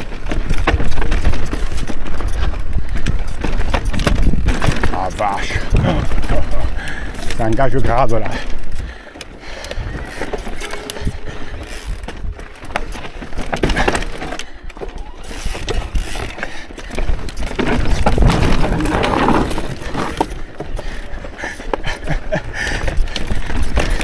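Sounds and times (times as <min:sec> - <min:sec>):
bike chain and frame clattering: 0:00.0 - 0:24.0.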